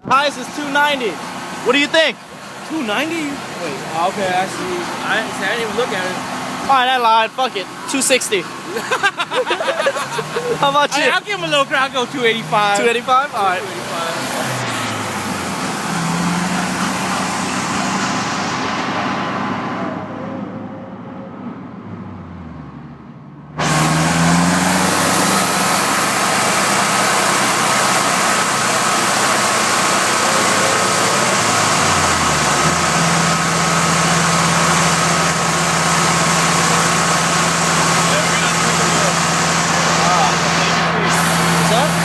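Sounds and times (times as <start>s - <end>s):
car engine on a dynamometer: 0.0s - 42.0s
loud steady rushing noise: 0.1s - 20.8s, 23.6s - 42.0s.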